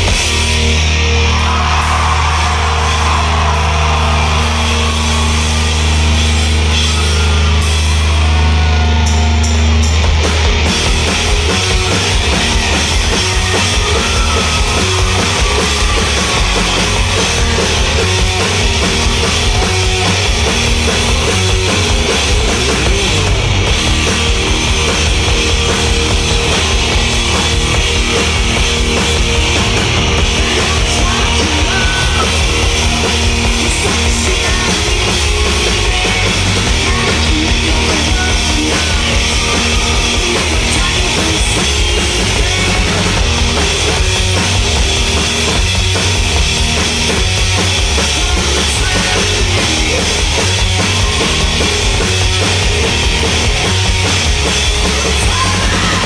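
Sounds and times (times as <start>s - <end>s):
loud rock music: 0.0s - 56.0s.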